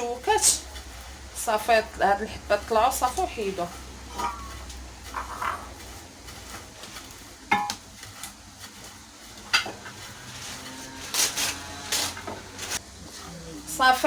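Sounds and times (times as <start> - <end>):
grains rustling in a dish: 0.0 - 14.0.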